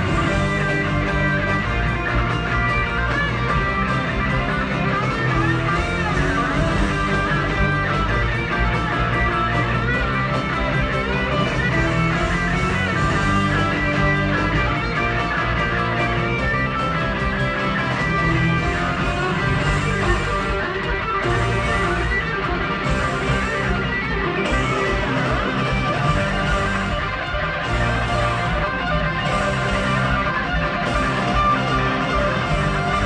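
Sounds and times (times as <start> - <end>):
electric guitar lead line: 0.0 - 33.0
rock band playing: 0.0 - 33.0.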